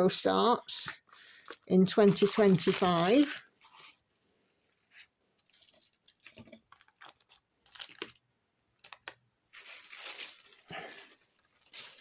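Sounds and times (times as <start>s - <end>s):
paper rustling and crinkling: 1.4s - 8.2s, 8.8s - 12.0s.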